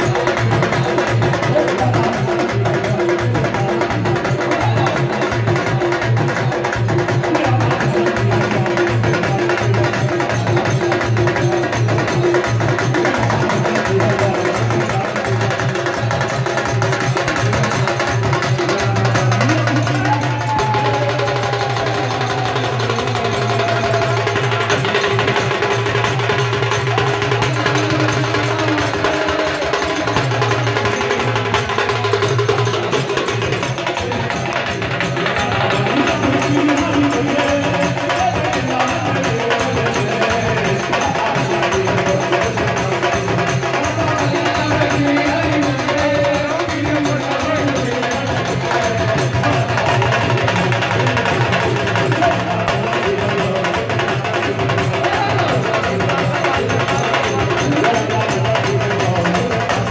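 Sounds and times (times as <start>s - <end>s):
hand drum beating fast rhythm: 0.0s - 59.9s
sharp hand percussion strikes: 0.0s - 59.9s.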